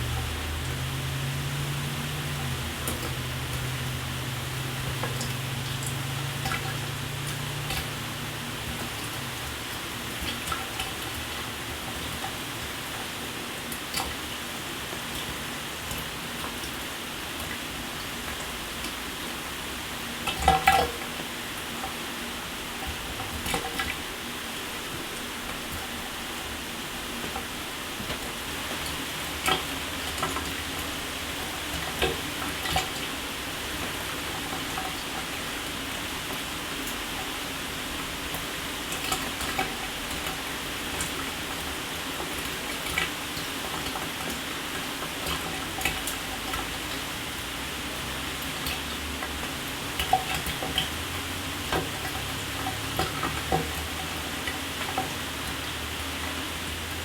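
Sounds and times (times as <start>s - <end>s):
water splashes and drips: 0.0s - 57.0s.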